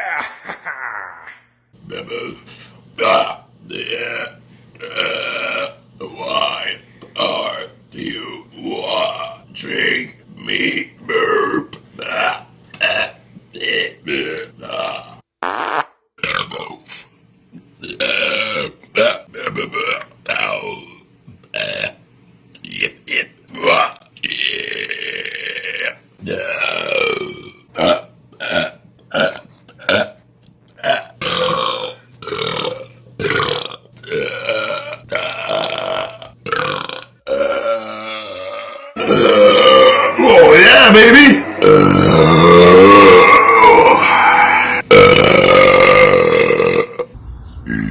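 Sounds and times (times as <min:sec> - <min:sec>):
man belching: 0:01.9 - 0:02.4, 0:03.0 - 0:09.4, 0:10.4 - 0:16.8, 0:17.8 - 0:22.0, 0:22.7 - 0:30.2, 0:30.8 - 0:47.1.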